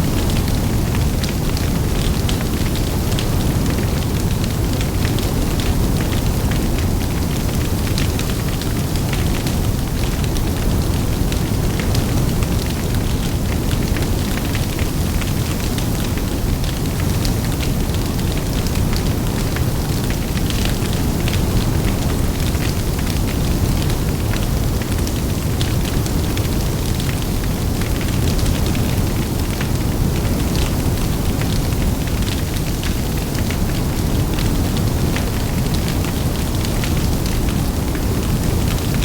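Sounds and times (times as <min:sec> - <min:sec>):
low rumble of flames: 0:00.0 - 0:39.0.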